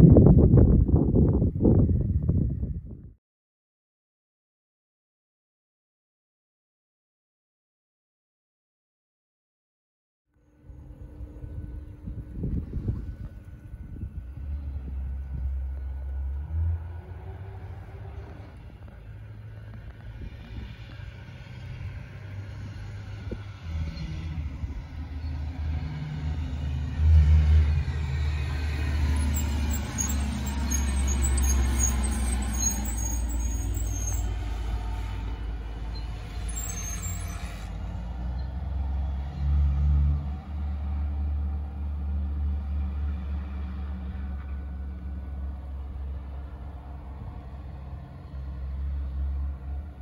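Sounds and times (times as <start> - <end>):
motor vehicle rumble: 0.0 - 3.2, 10.4 - 50.0.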